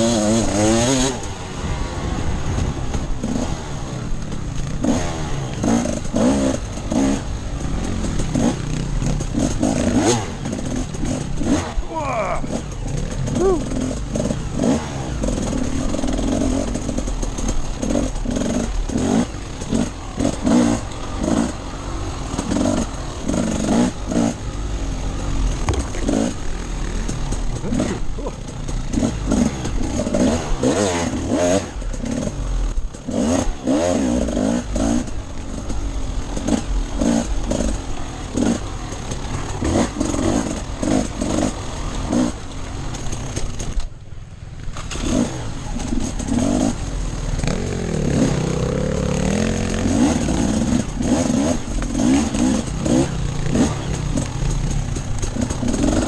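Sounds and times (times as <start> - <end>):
dirt bike engine revving: 0.0 - 43.8, 44.7 - 56.0.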